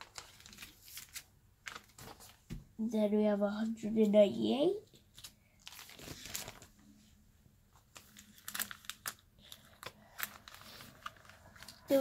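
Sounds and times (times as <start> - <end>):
plastic sleeves rustling: 0.0 - 2.7, 4.8 - 12.0.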